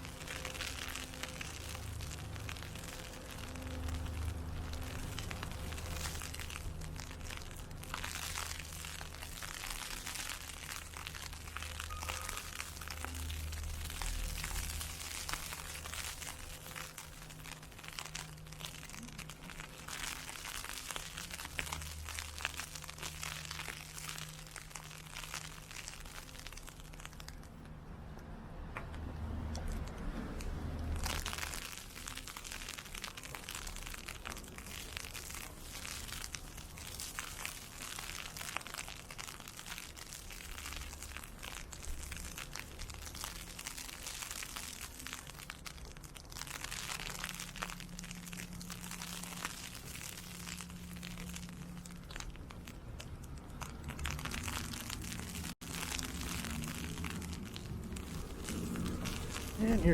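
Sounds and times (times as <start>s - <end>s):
wind-blown ice pellets: 0.0s - 27.6s, 29.2s - 59.9s.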